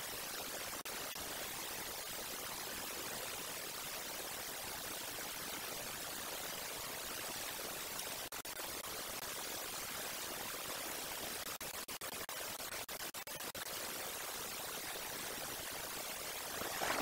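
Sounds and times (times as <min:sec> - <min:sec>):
microphone static hiss: 0:00.0 - 0:17.0.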